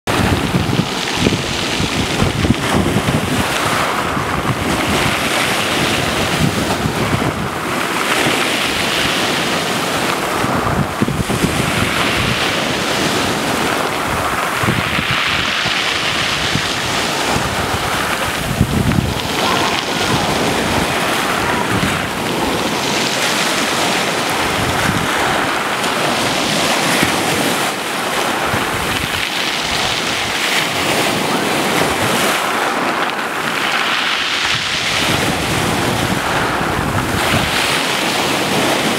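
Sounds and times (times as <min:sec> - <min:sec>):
waves washing up pebble beach: 0:00.1 - 0:38.9.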